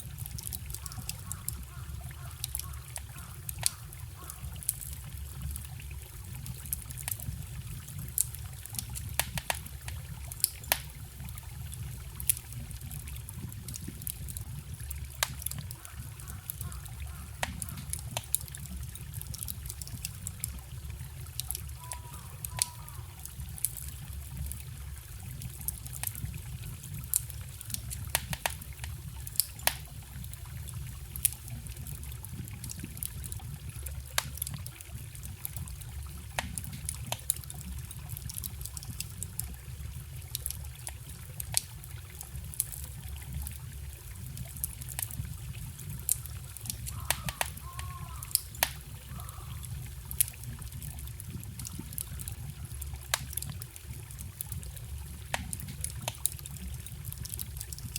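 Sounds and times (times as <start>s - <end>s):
campfire crackling and popping: 0.0s - 57.9s
stream trickling: 0.0s - 57.9s.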